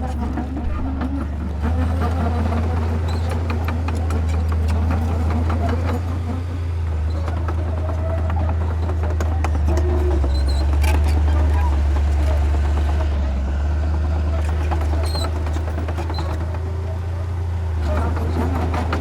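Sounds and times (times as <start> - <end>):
diesel machine droning: 0.0 - 19.0.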